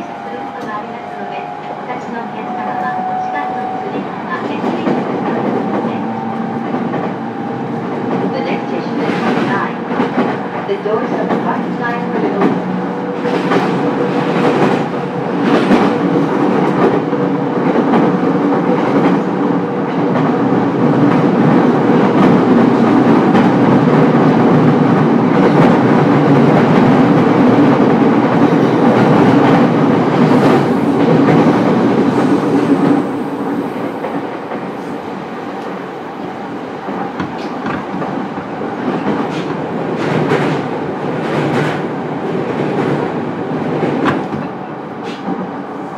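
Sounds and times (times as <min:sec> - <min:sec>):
train running gear hum: 0:00.0 - 0:45.9.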